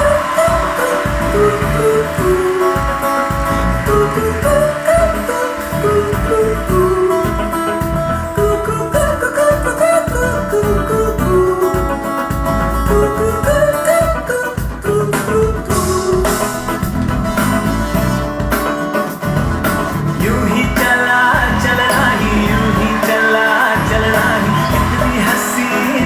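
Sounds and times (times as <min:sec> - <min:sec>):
music with guitar and bass: 0:00.0 - 0:26.0.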